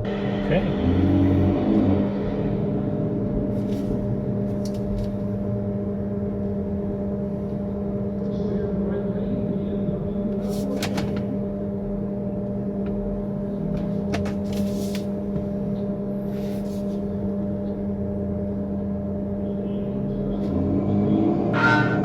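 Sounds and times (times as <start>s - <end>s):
steady hum with overtones: 0.0s - 22.0s.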